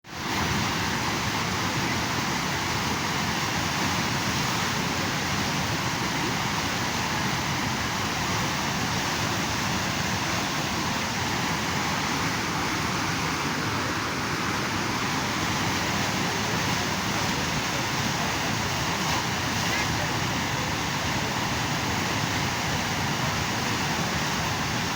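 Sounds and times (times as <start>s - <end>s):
river water rushing: 0.1s - 24.9s.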